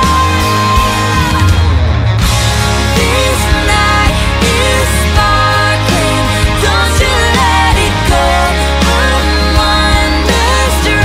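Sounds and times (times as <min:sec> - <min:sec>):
heavy steady bass: 0:00.0 - 0:11.0
song with sung melody: 0:00.0 - 0:11.0.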